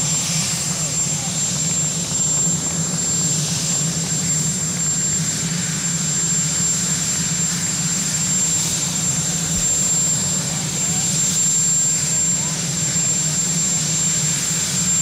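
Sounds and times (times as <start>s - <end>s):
helicopter rotor drone: 0.0s - 15.0s
helicopter turbine whine: 0.0s - 15.0s.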